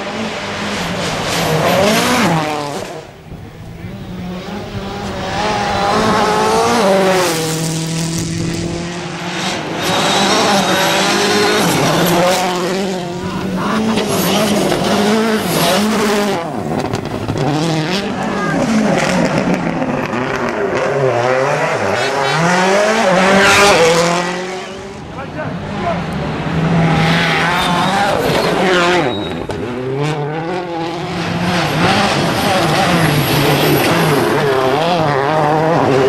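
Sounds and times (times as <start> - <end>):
rally car engine at full throttle: 0.0 - 36.0.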